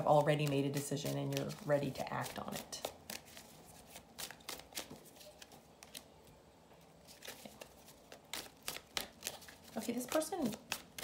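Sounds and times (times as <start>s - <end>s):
cards being shuffled: 0.0s - 6.2s, 7.0s - 11.0s.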